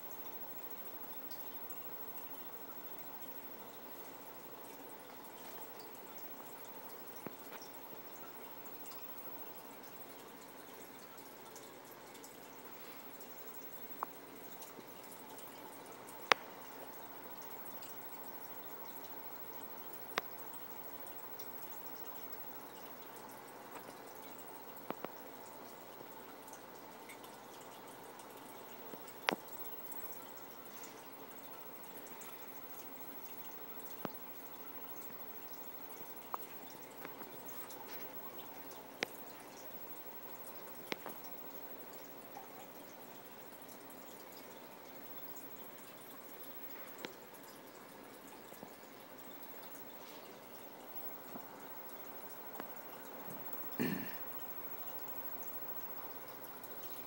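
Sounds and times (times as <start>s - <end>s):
filter water trickling and dripping: 0.0s - 57.0s.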